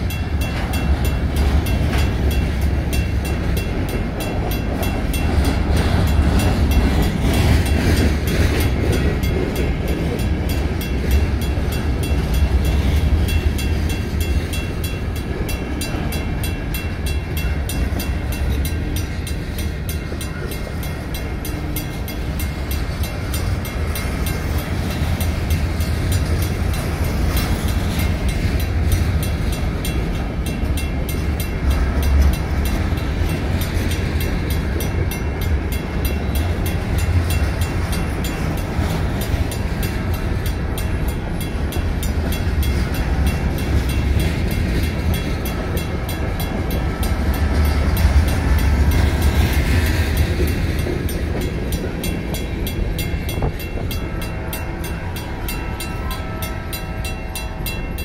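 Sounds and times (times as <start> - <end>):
crossing signal bell ringing: 0.0 - 58.0
train wheels rumbling on rail: 0.0 - 58.0.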